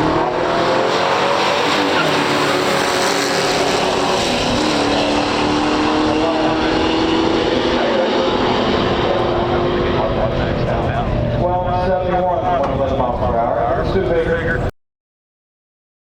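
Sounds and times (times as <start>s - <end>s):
car engines at full throttle: 0.0s - 14.7s.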